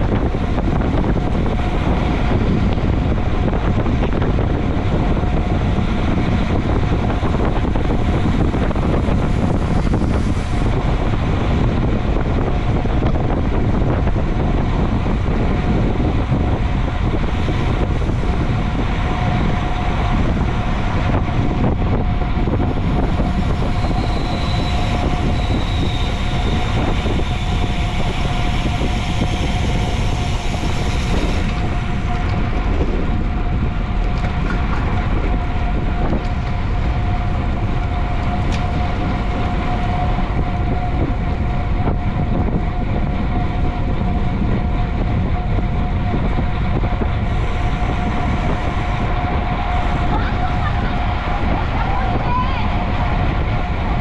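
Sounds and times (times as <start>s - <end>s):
tyre and road rumble: 0.0s - 54.0s
wind rushing over microphone: 0.0s - 54.0s.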